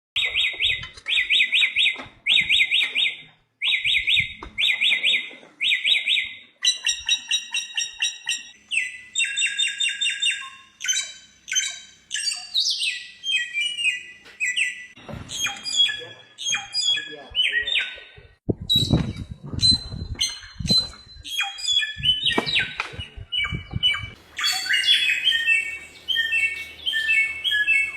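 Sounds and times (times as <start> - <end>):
bird singing trilled phrases: 0.2 - 27.9.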